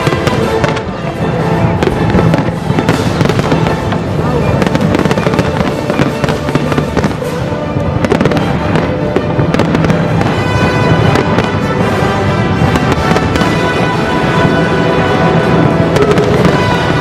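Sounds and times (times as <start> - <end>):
fireworks bangs and crackles: 0.0 - 17.0
orchestral music: 0.0 - 17.0.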